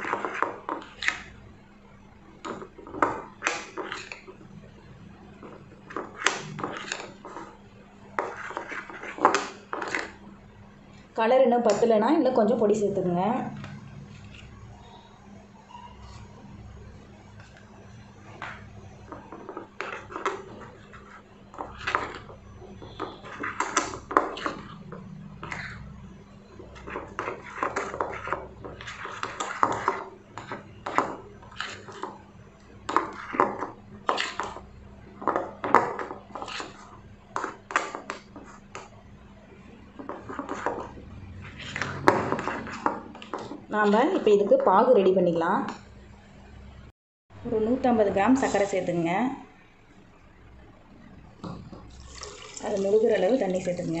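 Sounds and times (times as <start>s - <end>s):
spoon stirring thick batter: 0.0s - 46.0s, 51.2s - 54.0s.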